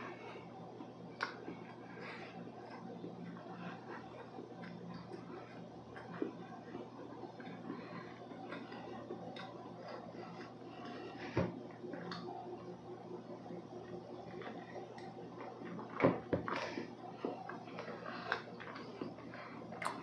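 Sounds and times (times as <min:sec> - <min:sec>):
person chewing cake: 0:00.0 - 0:20.0.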